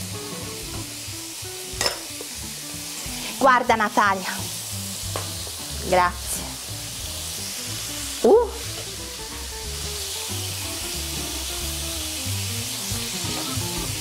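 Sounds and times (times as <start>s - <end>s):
background music: 0.0s - 14.0s
deep-frying sizzle in hot oil: 0.0s - 14.0s.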